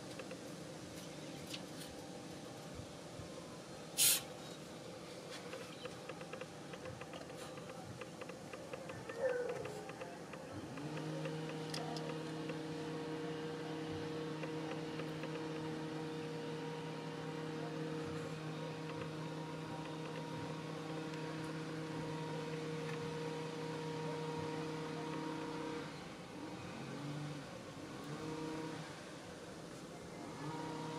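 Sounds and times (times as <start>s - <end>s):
steady mechanical hum: 0.0s - 30.9s.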